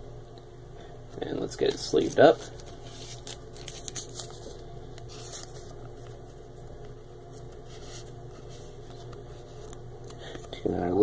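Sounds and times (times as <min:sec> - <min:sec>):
steady low hum: 0:00.0 - 0:11.0
card rustling against plastic: 0:01.1 - 0:11.0.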